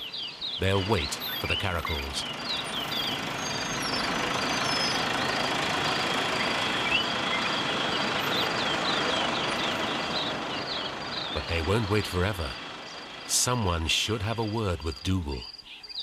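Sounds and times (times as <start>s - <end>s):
steady engine noise: 0.0s - 15.4s
insects chirping: 0.0s - 16.0s.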